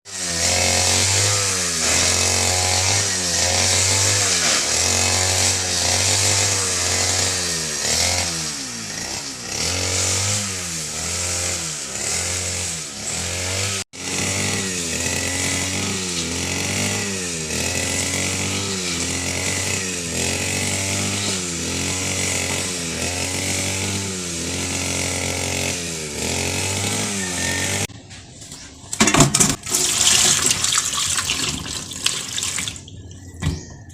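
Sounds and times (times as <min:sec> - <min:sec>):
small engine revving: 0:00.1 - 0:27.9.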